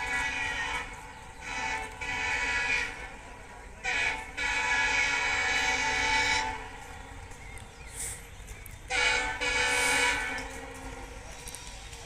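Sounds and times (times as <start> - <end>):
diesel locomotive horn blasts: 0.0 - 7.2, 8.9 - 11.4.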